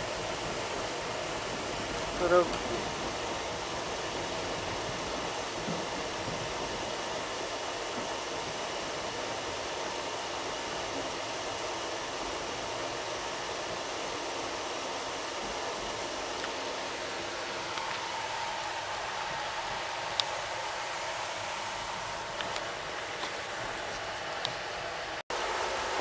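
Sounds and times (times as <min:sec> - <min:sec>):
air-conditioning hiss: 0:00.0 - 0:26.0
running train: 0:00.0 - 0:26.0.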